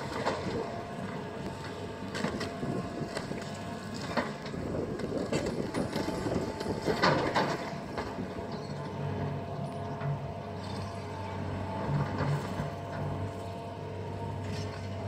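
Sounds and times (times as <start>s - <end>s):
excavator engine hum: 0.0s - 15.0s.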